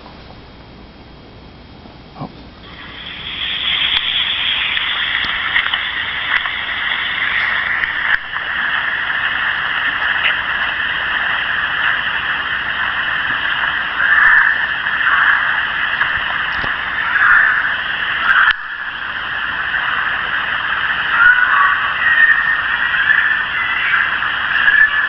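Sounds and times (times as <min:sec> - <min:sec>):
waterfall rushing: 0:02.6 - 0:25.0.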